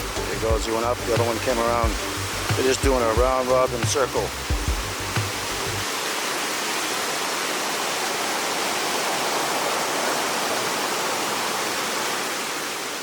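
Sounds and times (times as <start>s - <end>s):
river rapids rushing over rocks: 0.4s - 13.0s.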